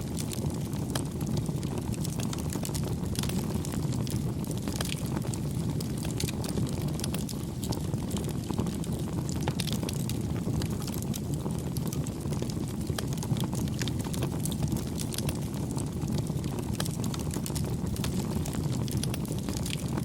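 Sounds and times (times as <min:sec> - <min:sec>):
campfire flames rushing: 0:00.0 - 0:20.0
fire crackling and popping: 0:00.0 - 0:20.0.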